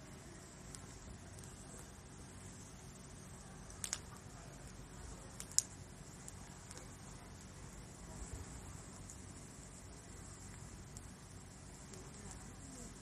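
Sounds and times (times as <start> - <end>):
wood fire crackling: 0.0 - 13.0
sharp pops of fire: 0.6 - 12.9.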